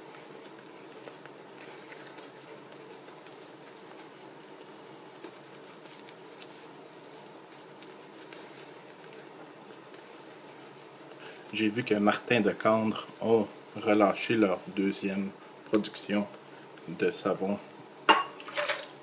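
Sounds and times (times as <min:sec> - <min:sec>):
shaving brush soft brushing: 0:00.0 - 0:17.7.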